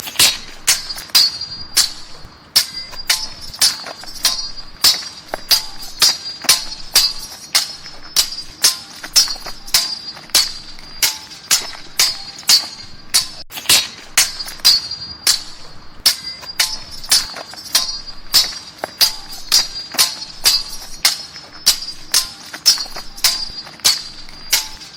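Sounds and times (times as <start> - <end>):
steel swords clashing: 0.0 - 24.9.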